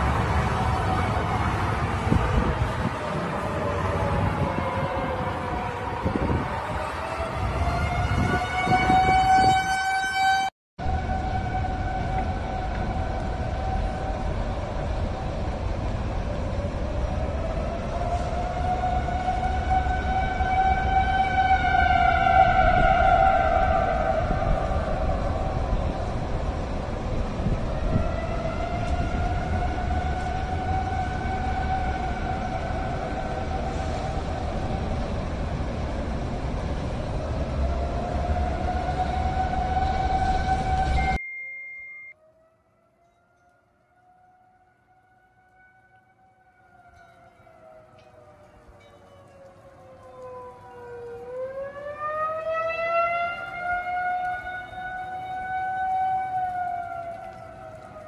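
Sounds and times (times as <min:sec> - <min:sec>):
warning siren wailing: 0:00.0 - 0:41.2, 0:42.1 - 0:58.0.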